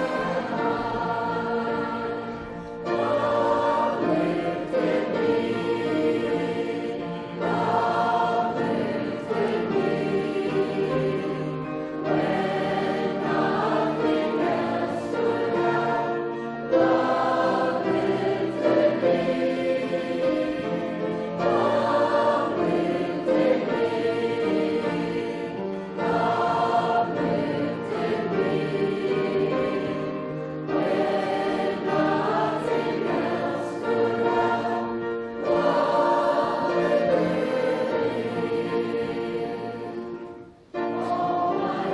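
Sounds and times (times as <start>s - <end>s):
group singing a hymn: 0.0s - 41.9s.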